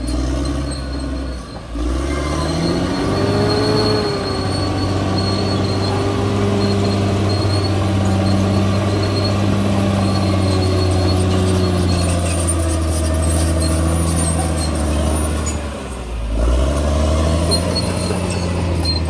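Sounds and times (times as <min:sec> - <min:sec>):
bulldozer diesel engine revving: 0:00.0 - 0:19.0
thin high-pitched squeal: 0:00.1 - 0:15.7, 0:17.4 - 0:19.0.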